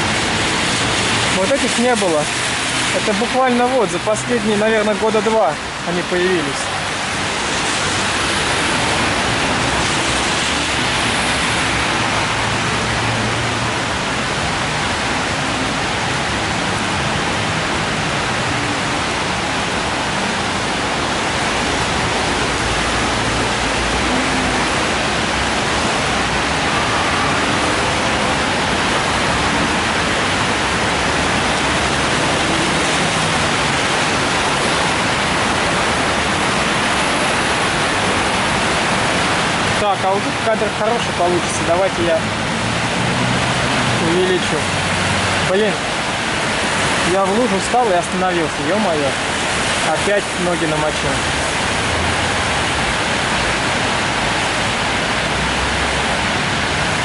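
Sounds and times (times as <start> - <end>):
rain hissing: 0.0 - 57.0
traffic on wet road: 0.0 - 57.0.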